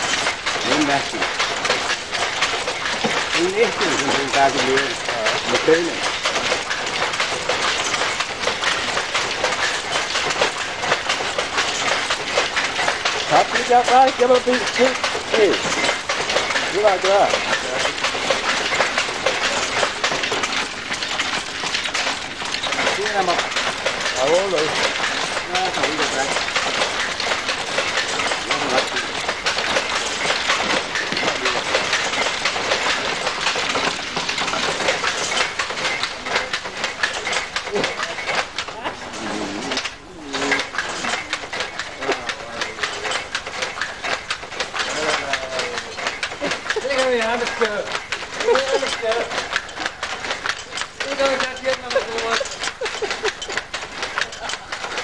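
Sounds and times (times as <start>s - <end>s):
weaving loom clattering: 0.0s - 55.0s.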